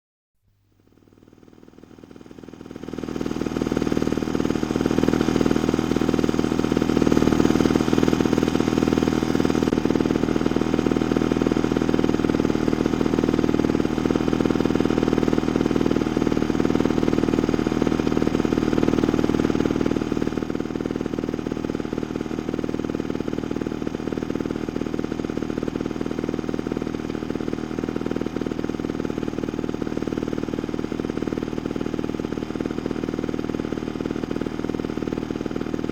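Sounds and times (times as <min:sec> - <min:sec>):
lawnmower engine running: 0:00.8 - 0:35.9.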